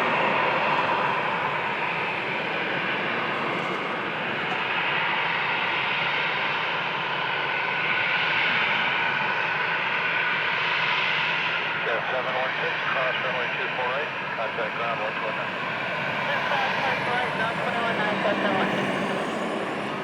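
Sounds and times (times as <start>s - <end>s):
jet engines humming with whine: 0.0s - 20.0s.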